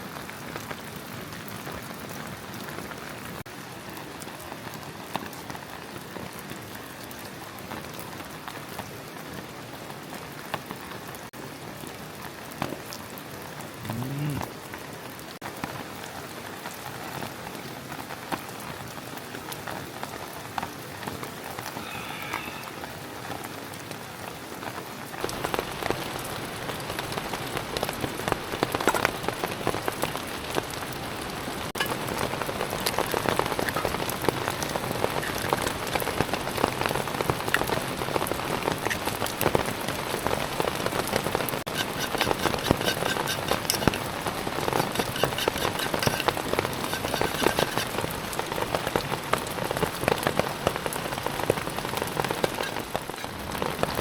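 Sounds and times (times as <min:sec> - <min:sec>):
rain drops pattering: 0:00.0 - 0:21.8, 0:22.8 - 0:54.0.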